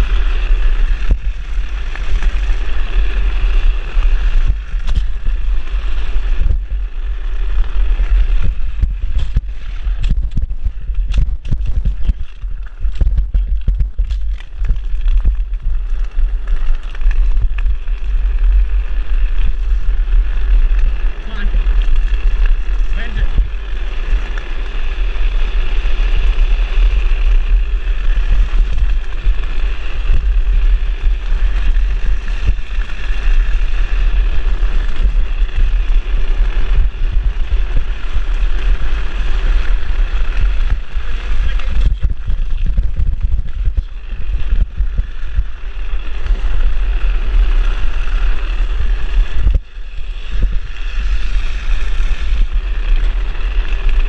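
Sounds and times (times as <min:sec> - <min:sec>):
wheels hissing on asphalt: 0:00.0 - 0:54.0
wind buffeting microphone: 0:00.0 - 0:54.0.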